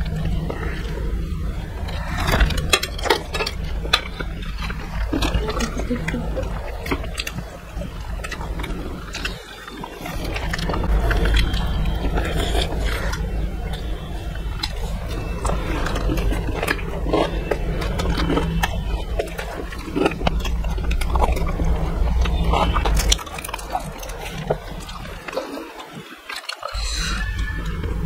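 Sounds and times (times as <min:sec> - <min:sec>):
low rumble: 0:00.0 - 0:25.4, 0:26.8 - 0:28.0
people chewing and eating: 0:00.0 - 0:28.0.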